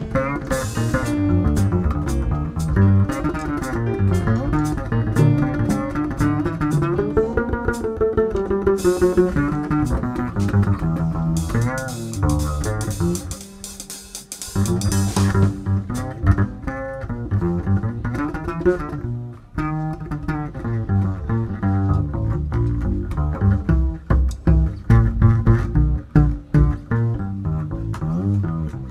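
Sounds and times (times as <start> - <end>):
double bass: 0.0 - 28.9
swing jazz on strings: 0.0 - 28.9.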